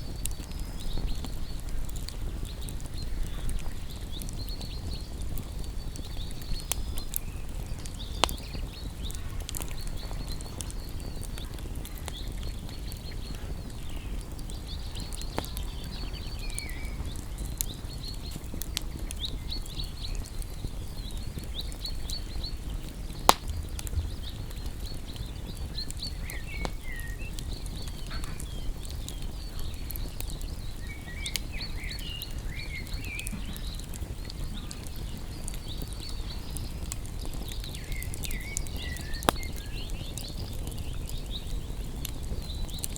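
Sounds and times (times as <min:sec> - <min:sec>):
birds chirping: 0:00.0 - 0:42.9
campfire crackling and popping: 0:00.0 - 0:42.9.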